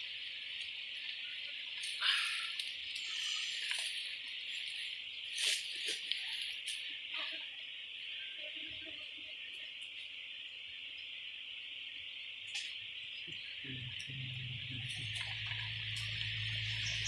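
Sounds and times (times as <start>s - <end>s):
low steady hum: 0.0s - 17.0s
night insects chirring: 0.0s - 17.0s.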